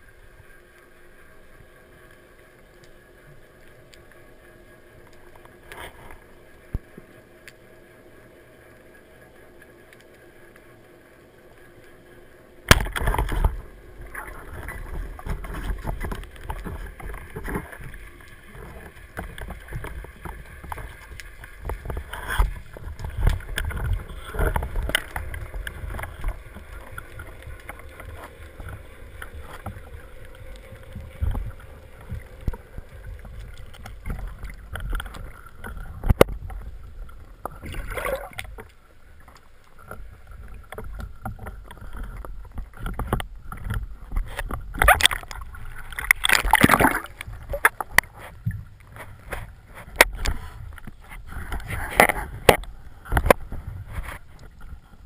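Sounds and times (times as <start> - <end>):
underwater rumble of water: 0.0 - 55.0.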